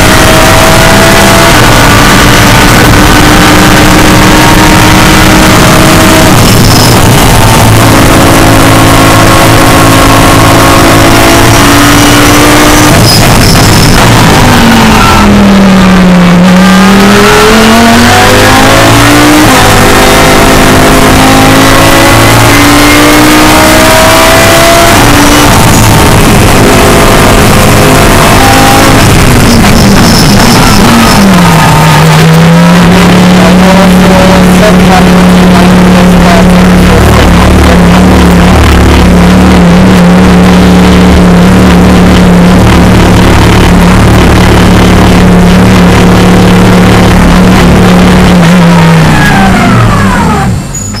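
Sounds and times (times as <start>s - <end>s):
race car engine: 0.0s - 51.0s.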